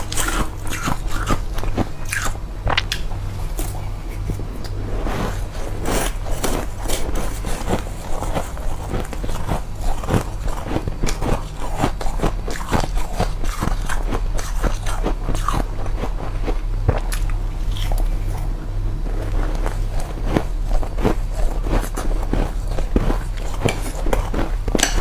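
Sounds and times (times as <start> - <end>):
person chewing crunchy frost: 0.0 - 25.0.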